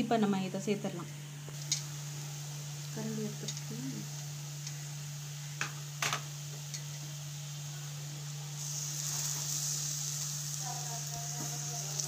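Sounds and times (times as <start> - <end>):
chicken sizzling in hot oil: 1.5 - 12.0.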